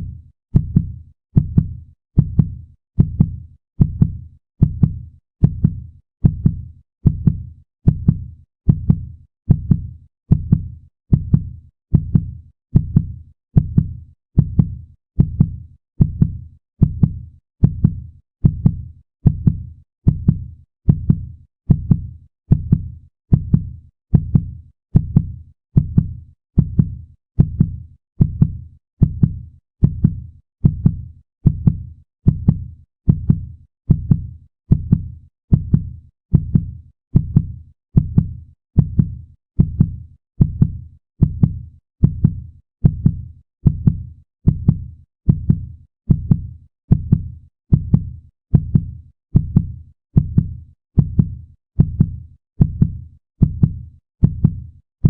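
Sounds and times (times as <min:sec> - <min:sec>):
heartbeat thumps: 0:00.6 - 0:54.6.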